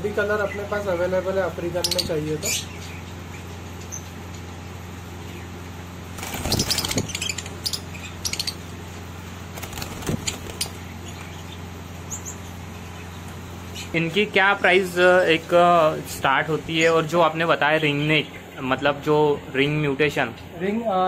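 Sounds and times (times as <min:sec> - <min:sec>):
lovebirds chirping: 0:00.0 - 0:19.8
steady low hum: 0:00.0 - 0:21.0.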